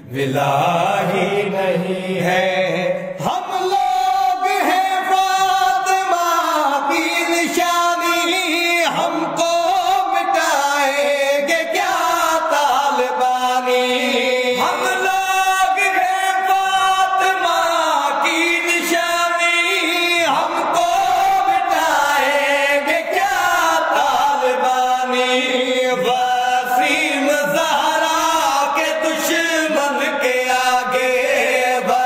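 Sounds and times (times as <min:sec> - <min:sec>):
men singing without instruments: 0:00.0 - 0:32.0.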